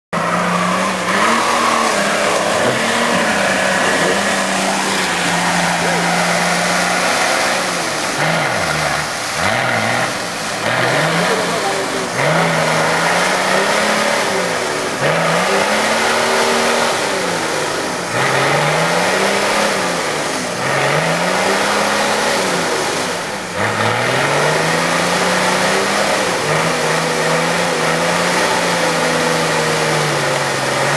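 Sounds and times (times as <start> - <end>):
off-road vehicle engine revving: 0.1 - 30.9
constant rushing noise: 0.2 - 30.9.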